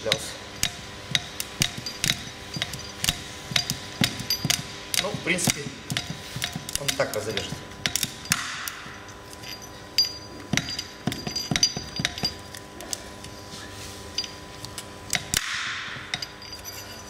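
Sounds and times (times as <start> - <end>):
steel wires snapping: 0.0 - 13.4, 14.2 - 16.7.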